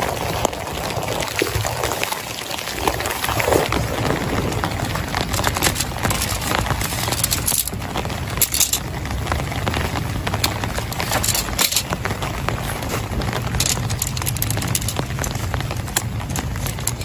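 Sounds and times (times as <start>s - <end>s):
low rain rumble: 0.0s - 17.0s
raindrops tapping: 0.0s - 17.0s.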